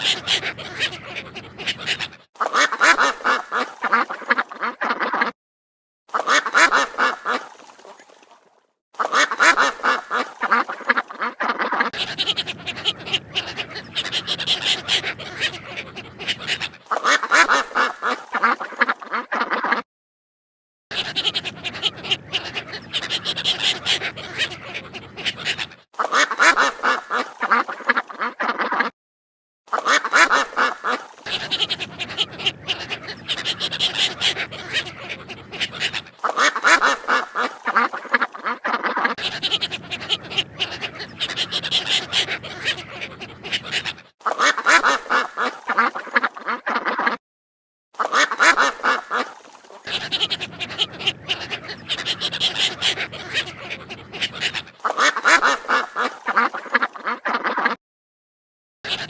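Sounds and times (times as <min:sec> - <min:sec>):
ducks quacking: 0:00.0 - 0:05.4, 0:06.1 - 0:07.9, 0:09.0 - 0:19.8, 0:20.9 - 0:28.9, 0:29.7 - 0:47.2, 0:48.0 - 0:57.8.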